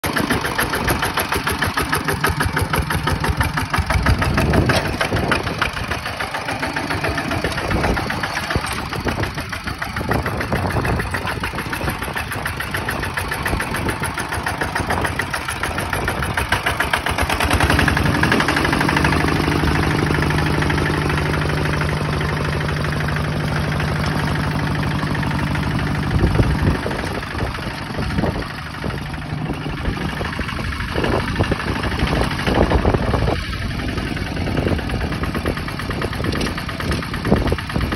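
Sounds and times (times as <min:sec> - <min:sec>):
diesel tractor engine running: 0:00.0 - 0:37.9.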